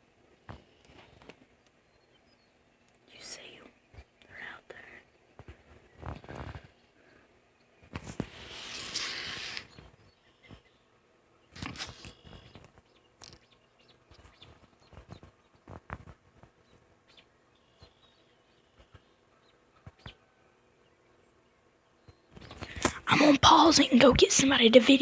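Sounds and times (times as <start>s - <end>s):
rustle: 0.0s - 23.0s
faint distant birds chirping: 0.0s - 25.0s.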